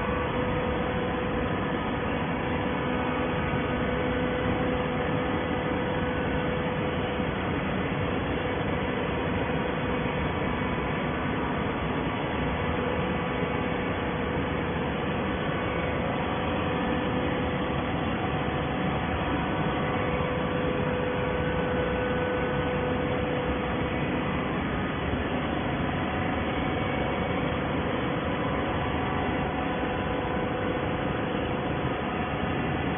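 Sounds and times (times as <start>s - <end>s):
baler machinery hum and hiss: 0.0s - 32.9s.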